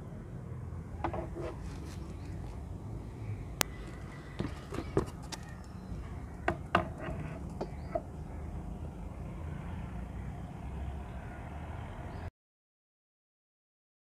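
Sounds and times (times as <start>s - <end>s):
low outdoor rumble: 0.0s - 12.2s.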